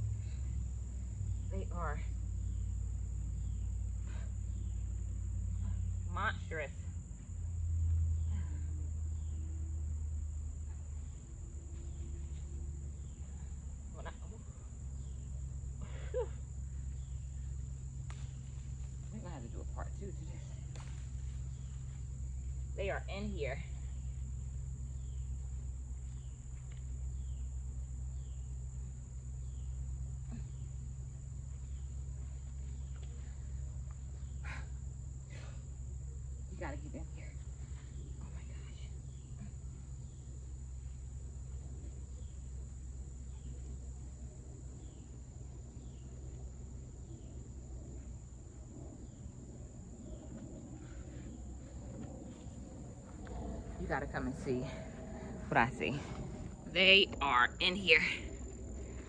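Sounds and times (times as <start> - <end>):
insects trilling: 0.0 - 59.0
low rumble: 0.0 - 59.0
low steady hum: 0.0 - 59.0.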